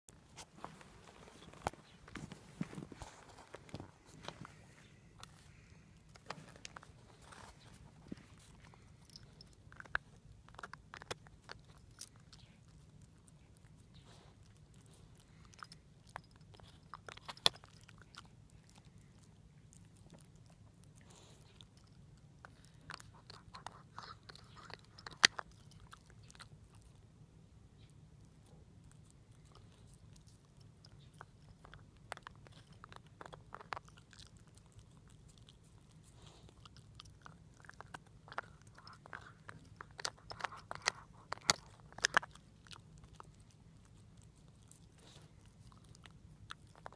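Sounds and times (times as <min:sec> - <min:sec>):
dog gnawing on a hard chew: 0:00.7 - 0:27.2, 0:27.8 - 0:46.9.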